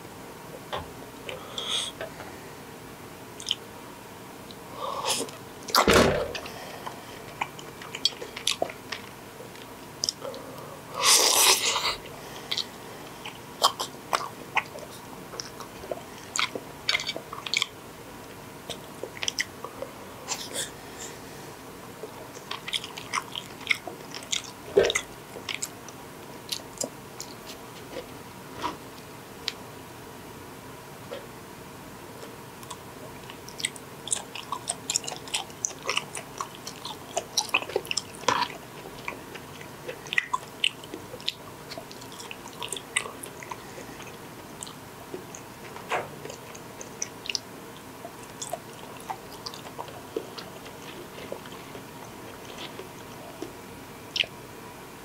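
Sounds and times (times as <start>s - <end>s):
close-up chewing and mouth sounds: 3.4s - 3.7s, 4.4s - 21.2s, 21.8s - 29.6s, 32.6s - 54.5s.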